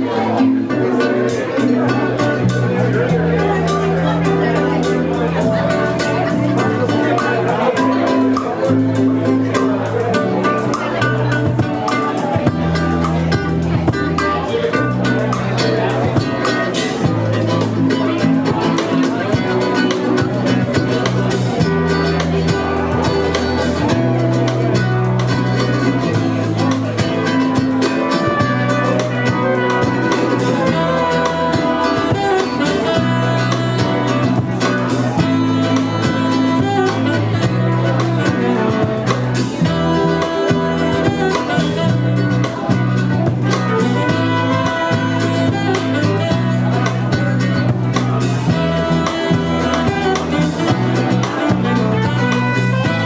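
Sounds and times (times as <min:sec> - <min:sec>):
bass line: 0:00.0 - 0:53.0
live band playing: 0:00.0 - 0:53.0
drums and cymbal hits: 0:00.8 - 0:53.0.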